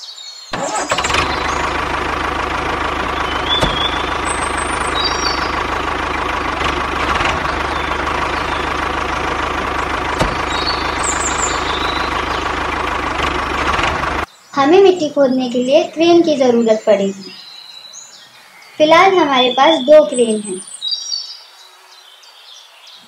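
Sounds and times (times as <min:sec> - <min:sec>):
birds chirping faintly: 0:00.0 - 0:23.0.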